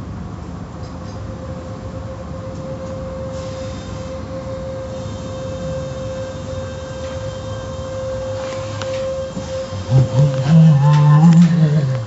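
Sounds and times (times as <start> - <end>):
car wash machinery drone: 0.0 - 12.0
constant mechanical whine: 0.0 - 12.0.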